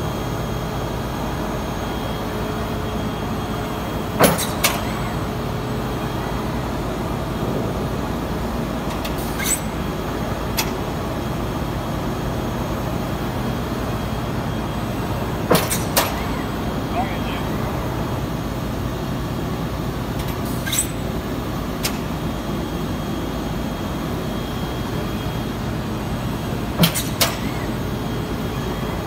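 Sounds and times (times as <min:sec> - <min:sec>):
industrial machinery humming: 0:00.0 - 0:29.0.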